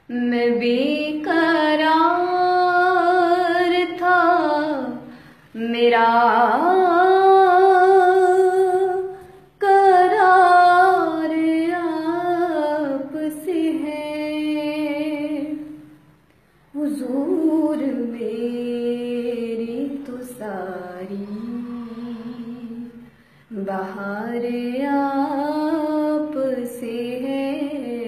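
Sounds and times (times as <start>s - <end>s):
woman singing ornamented phrases: 0.0s - 16.0s, 16.8s - 28.0s.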